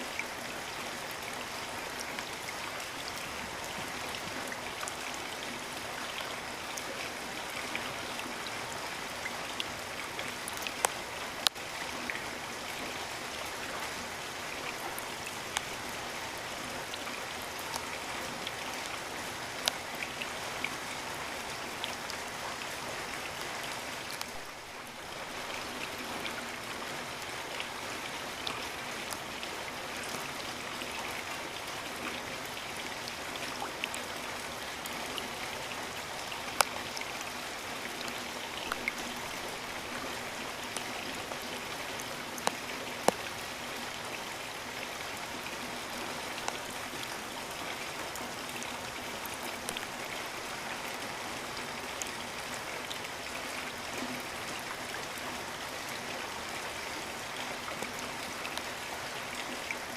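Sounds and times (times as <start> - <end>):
raindrops ticking close by: 0.0 - 59.9
steady rain hiss: 0.0 - 59.9.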